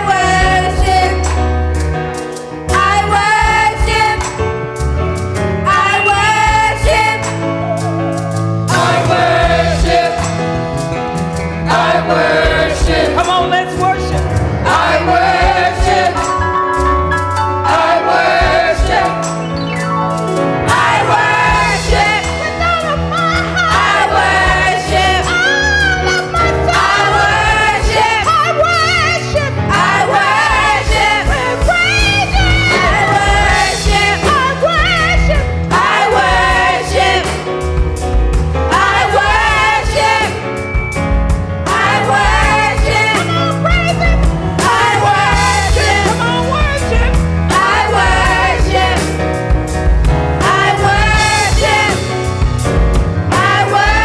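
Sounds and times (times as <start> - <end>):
choir singing worship song: 0.0 - 1.6, 2.6 - 4.4, 5.6 - 16.9, 17.6 - 19.6, 20.4 - 54.0
full band with bass and beat: 0.0 - 54.0.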